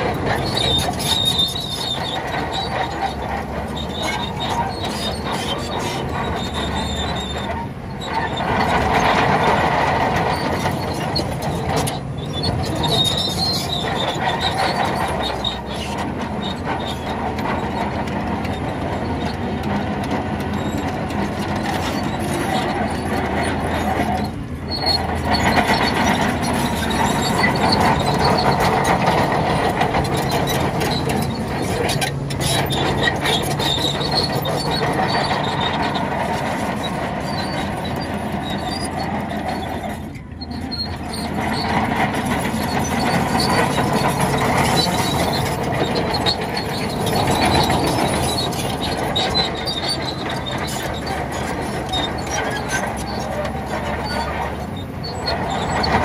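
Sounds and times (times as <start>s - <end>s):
diesel engine under load: 0.0s - 56.0s
steel tracks clanking and squealing: 0.0s - 56.0s.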